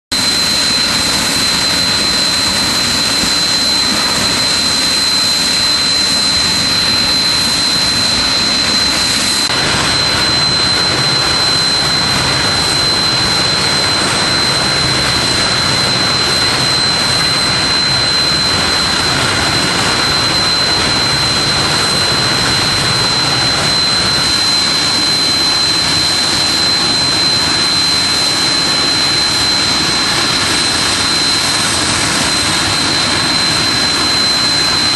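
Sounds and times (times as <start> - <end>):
thin high whistle: 0.2 - 34.9.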